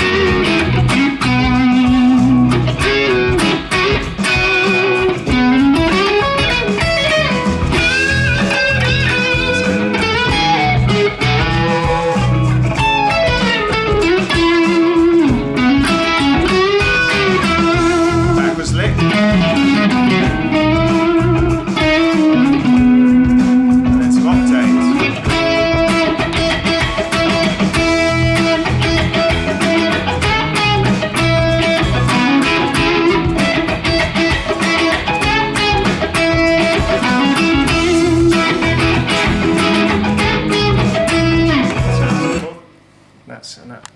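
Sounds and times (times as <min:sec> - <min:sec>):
band backing with drums and bass: 0:00.0 - 0:42.5
electric guitar solo: 0:00.0 - 0:42.7.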